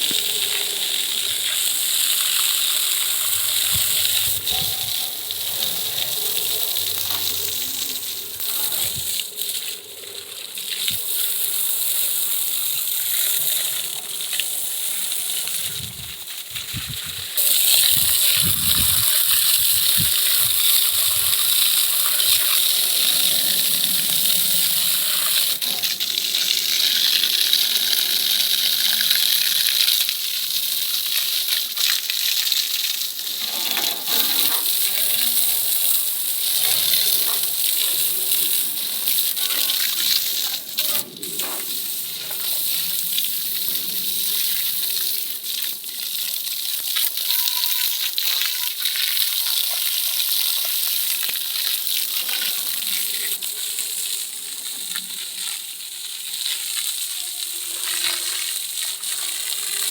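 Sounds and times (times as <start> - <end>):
water jet spraying on metal: 0.0 - 59.9.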